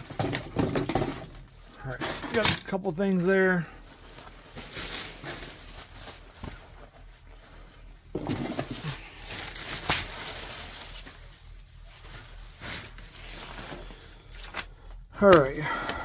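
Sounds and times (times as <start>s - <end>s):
nylon cover rustling and crinkling: 1.3s - 15.6s.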